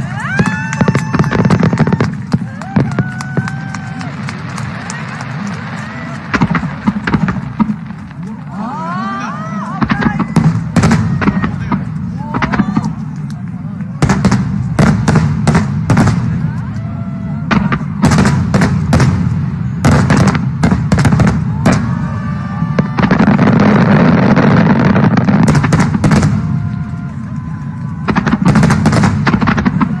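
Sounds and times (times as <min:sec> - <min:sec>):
low continuous rumble: 0:00.0 - 0:30.0.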